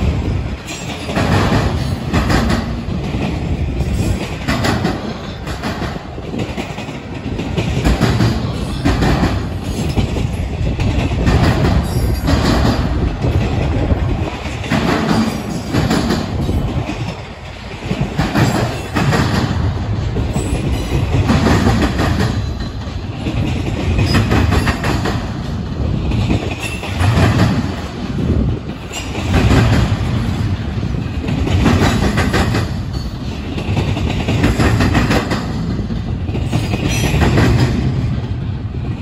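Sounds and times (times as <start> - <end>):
train cars rumbling past: 0.0 - 39.0
wheels clacking over rail joints: 0.0 - 39.0.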